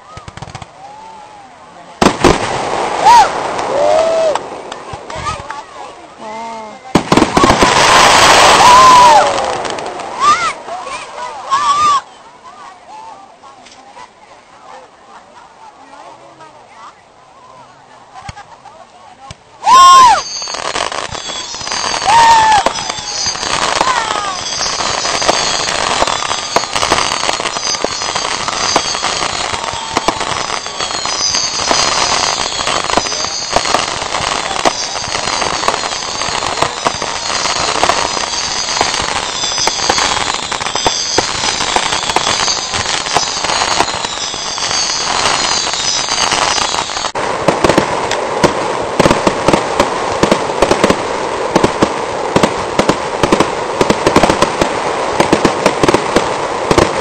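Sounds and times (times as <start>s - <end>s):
fireworks crackling and banging: 0.0s - 1.2s, 1.8s - 12.7s, 18.1s - 57.0s.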